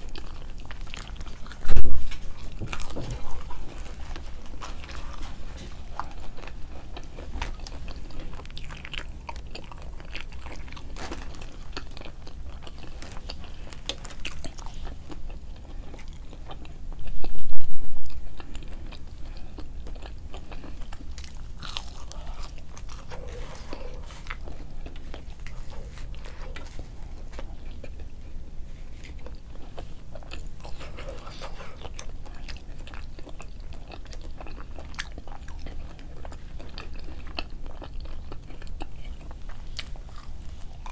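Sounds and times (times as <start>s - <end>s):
person chewing food: 0.0s - 17.4s, 18.0s - 40.9s
steady low hum: 0.0s - 40.9s.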